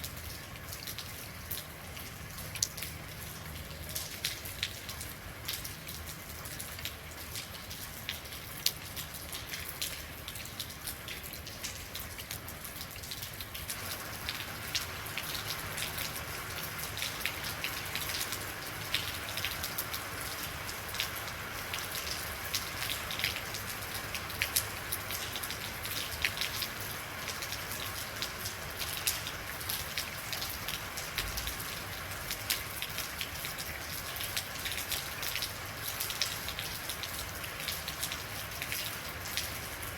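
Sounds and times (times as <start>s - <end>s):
rain falling: 0.0s - 39.9s
raindrops ticking on hard surface: 0.0s - 39.9s.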